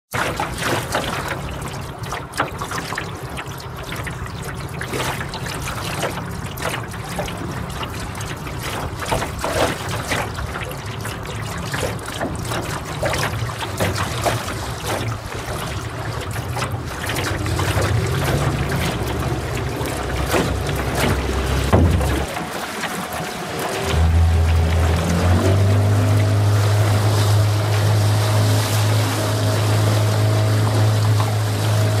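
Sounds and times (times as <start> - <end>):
water lapping against boat hull: 0.1 - 32.0
low steady rumble: 1.2 - 32.0.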